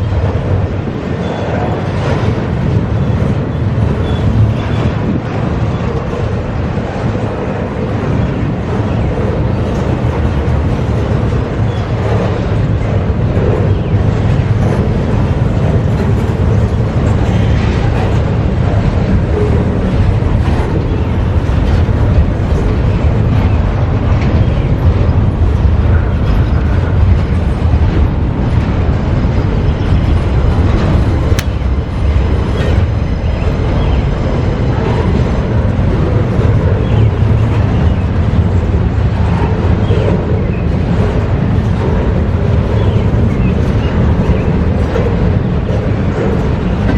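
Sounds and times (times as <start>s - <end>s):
freight train wheels rolling on track: 0.0s - 46.9s.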